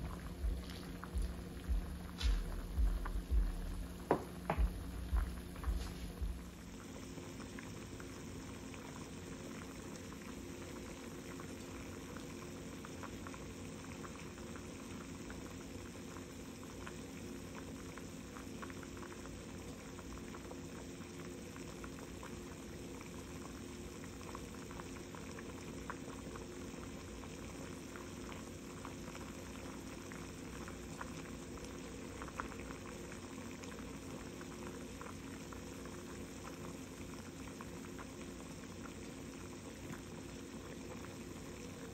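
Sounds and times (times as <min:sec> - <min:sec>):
pot boiling with bubbling pops: 0:00.0 - 0:41.9.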